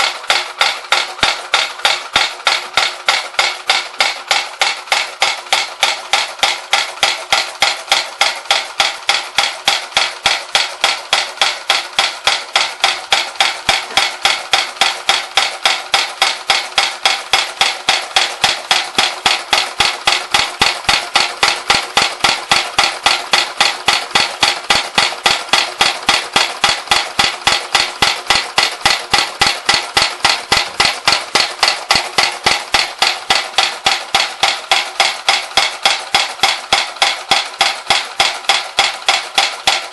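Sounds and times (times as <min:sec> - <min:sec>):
toy hammer striking metal: 0:00.0 - 0:39.9.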